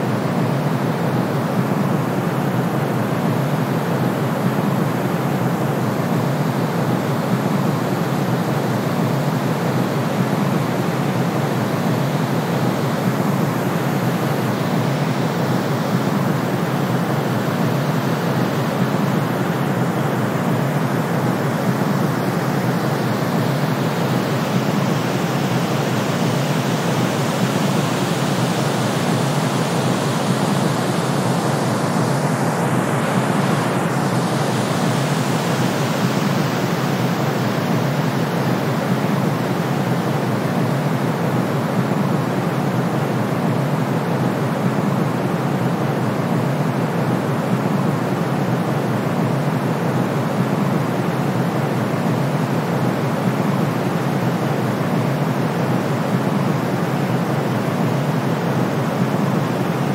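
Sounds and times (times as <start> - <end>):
steady even noise hiss: 0.0 - 59.9.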